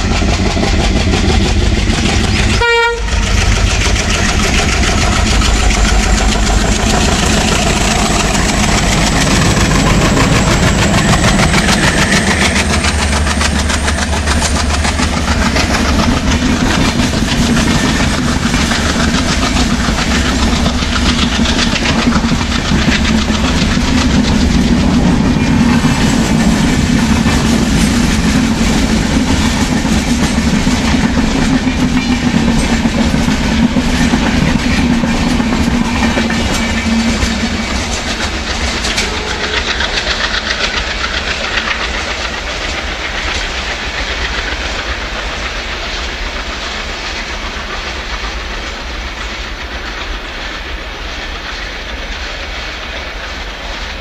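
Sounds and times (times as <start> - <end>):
wheels clattering over rail joints: 0.0 - 53.0
diesel locomotives chugging: 0.0 - 54.0.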